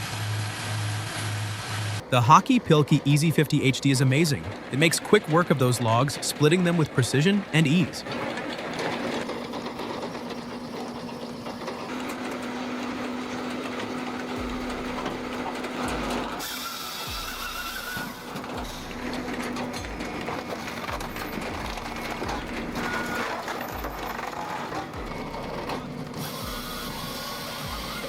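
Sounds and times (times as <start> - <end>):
firewood processor humming: 0.0 - 28.0.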